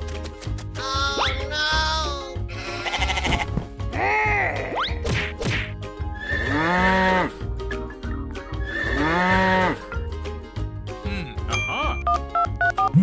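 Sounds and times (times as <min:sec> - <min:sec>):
background music with bass pulse: 0:00.0 - 0:13.0.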